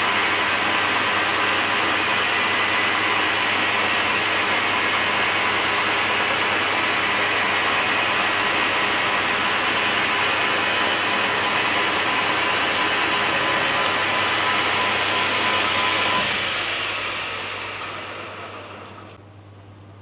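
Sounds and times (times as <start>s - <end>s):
lathe running: 0.0s - 19.2s.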